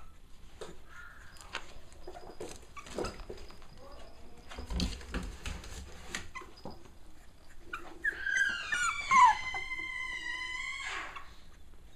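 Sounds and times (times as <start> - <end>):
puppy whining: 0.0 - 4.3, 6.1 - 11.9.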